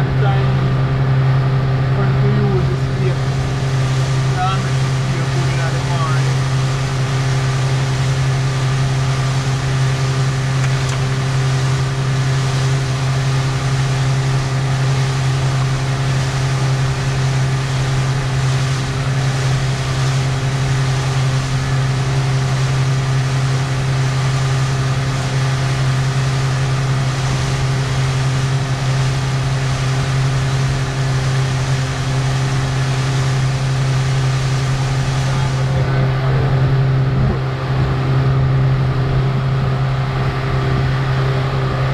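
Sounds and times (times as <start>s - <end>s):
boat motor droning: 0.0s - 41.9s
rushing water and wind: 2.5s - 41.9s.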